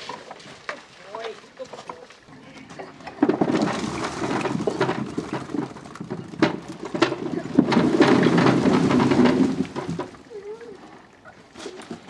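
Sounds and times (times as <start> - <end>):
potatoes tumbling and clattering: 0.0 - 10.4.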